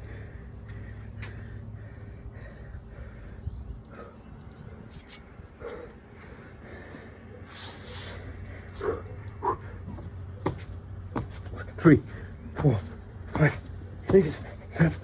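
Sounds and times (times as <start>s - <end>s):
man breathing hard: 0.0s - 12.4s.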